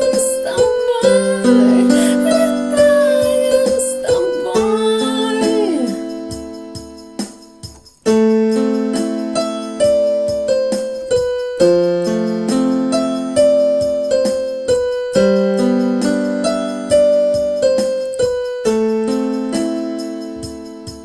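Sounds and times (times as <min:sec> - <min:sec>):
keyboard chords: 0:00.0 - 0:21.0.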